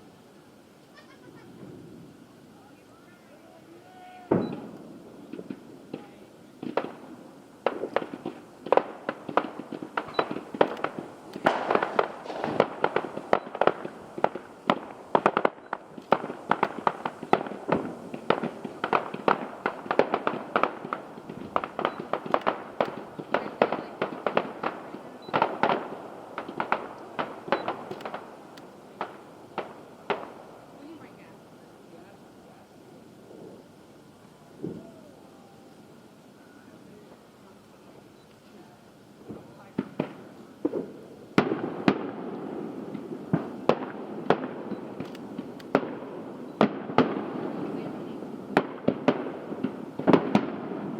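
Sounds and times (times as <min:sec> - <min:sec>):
fireworks bangs: 0:00.9 - 0:50.9.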